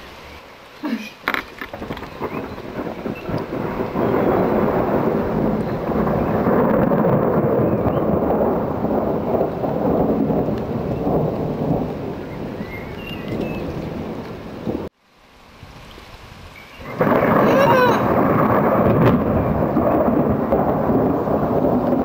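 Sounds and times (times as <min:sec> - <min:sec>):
rain falling: 0:00.0 - 0:22.0
rolling rumble of thunder: 0:01.6 - 0:14.9, 0:16.8 - 0:22.0.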